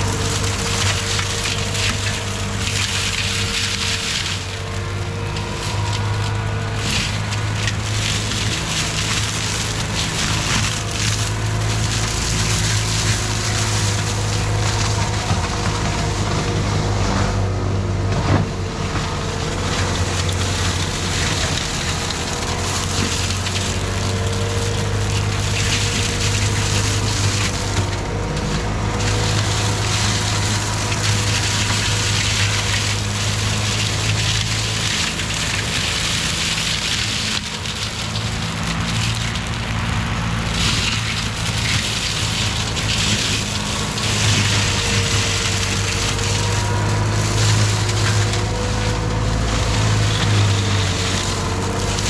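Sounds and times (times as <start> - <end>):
engine running under load: 0.0 - 52.0
mulcher shredding wood: 0.0 - 52.0.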